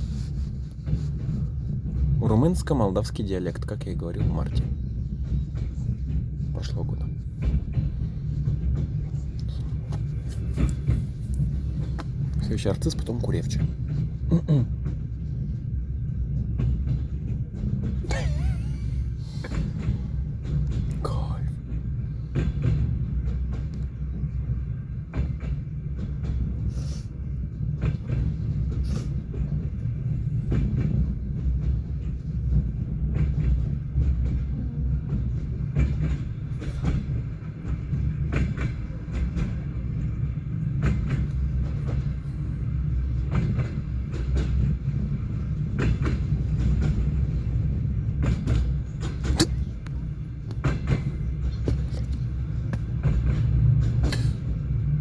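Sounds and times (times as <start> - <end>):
train carriage rumble: 0.0 - 55.0
wheels clacking over rail joints: 0.7 - 55.0.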